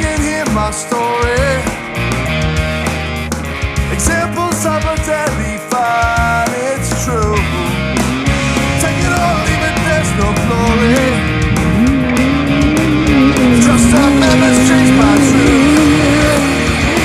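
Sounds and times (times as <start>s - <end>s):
electric guitar: 0.0s - 17.0s
steady drum beat: 0.0s - 17.0s.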